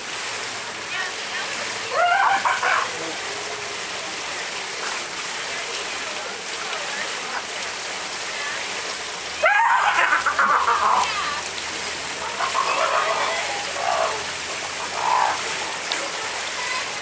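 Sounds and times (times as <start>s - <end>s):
animals splashing in water: 0.0s - 17.0s
running water: 0.0s - 17.0s.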